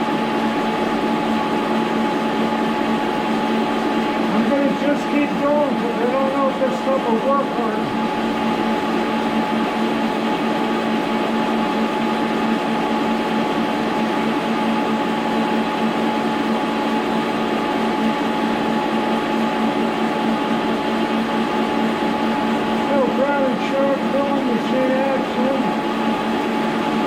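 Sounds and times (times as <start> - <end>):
milling machine humming: 0.0 - 27.0
milling machine whine: 0.0 - 27.0.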